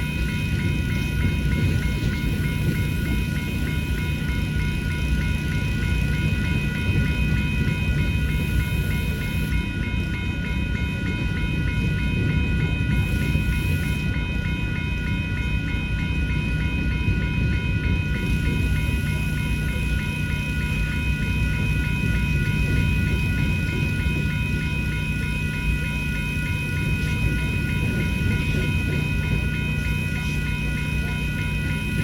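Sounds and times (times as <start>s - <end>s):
crossing bells ringing: 0.0s - 32.0s
freight train rumbling: 0.0s - 32.0s.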